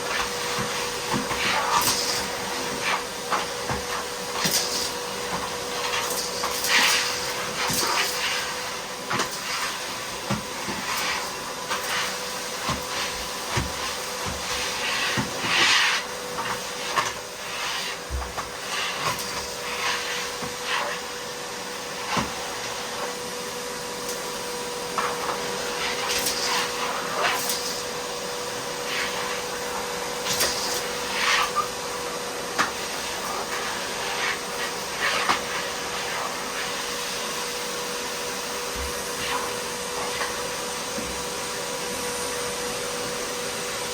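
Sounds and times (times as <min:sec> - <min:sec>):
vacuum cleaner whining hum: 0:00.0 - 0:43.9.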